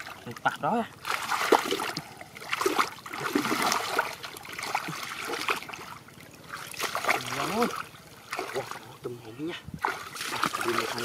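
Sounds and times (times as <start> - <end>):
hands sloshing through muddy water: 1.0 - 9.0, 9.8 - 11.0.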